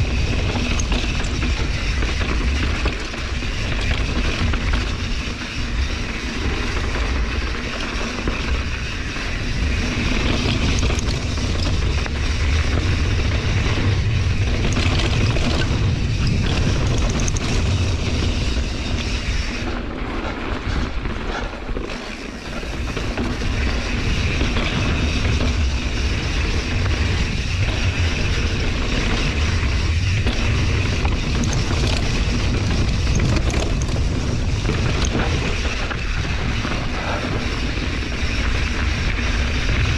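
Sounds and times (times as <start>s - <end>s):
bike rattling: 0.0s - 39.9s
tyres rolling on dirt trail: 0.0s - 39.9s
wind buffeting microphone: 0.0s - 39.9s.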